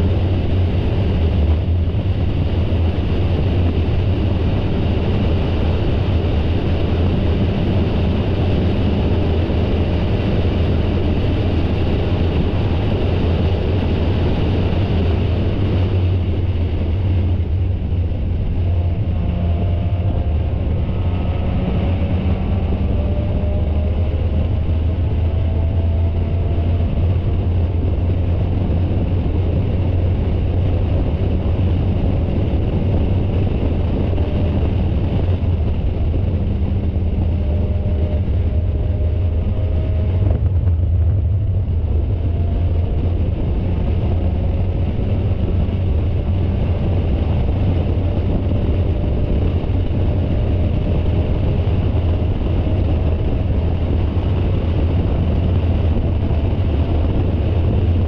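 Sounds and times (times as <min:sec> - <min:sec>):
race car engine rumble: 0:00.0 - 0:58.0
wind and road noise: 0:00.0 - 0:58.0.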